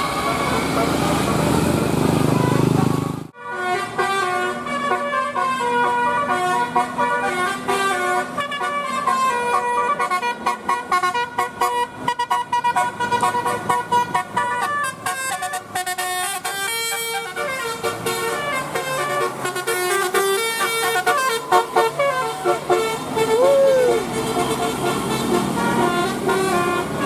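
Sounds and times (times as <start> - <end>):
air horns playing a melody: 2.2 - 27.0.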